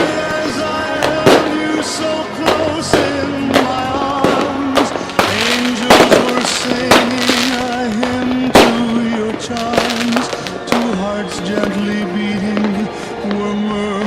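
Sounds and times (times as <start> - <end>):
fireworks bursting with crackling: 0.0 - 14.0.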